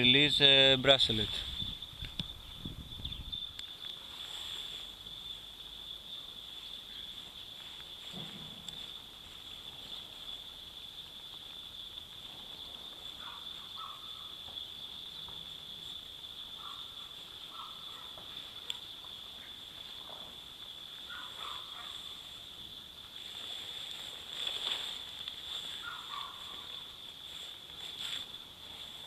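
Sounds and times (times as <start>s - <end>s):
high insect trill: 0.0s - 29.0s.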